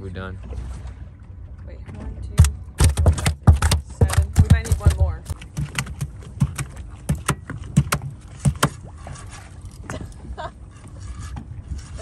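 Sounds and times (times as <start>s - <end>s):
boat engine low rumble: 0.0s - 12.0s
water knocks and slaps: 0.4s - 12.0s.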